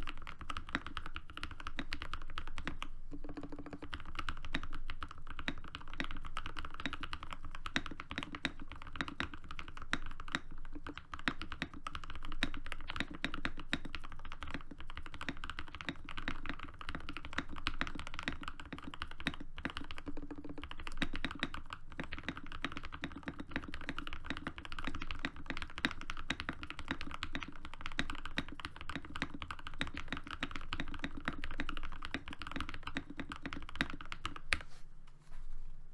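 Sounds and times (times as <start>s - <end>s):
fast typing on mechanical keyboard: 0.0s - 34.6s.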